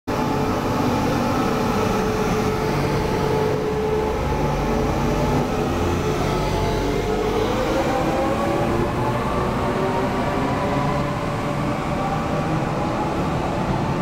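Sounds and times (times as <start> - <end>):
train electric hum: 0.1 - 14.0.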